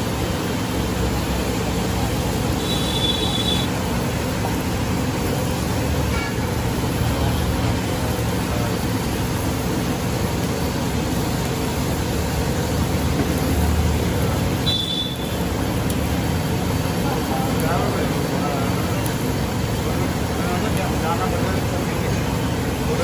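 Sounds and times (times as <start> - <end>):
loud rumbling noise: 0.0 - 23.0.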